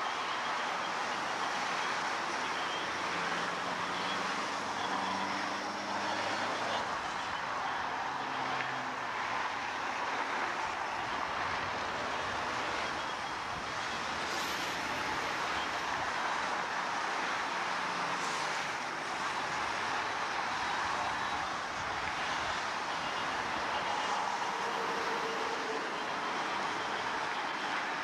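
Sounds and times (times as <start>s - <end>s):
freeway traffic rushing: 0.0s - 28.0s.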